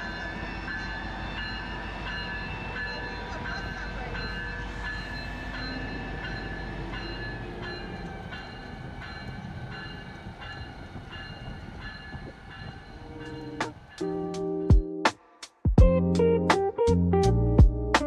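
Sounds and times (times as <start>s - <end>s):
high ringing tones: 0.0s - 14.7s
train wheels rumbling on rail: 0.0s - 14.8s.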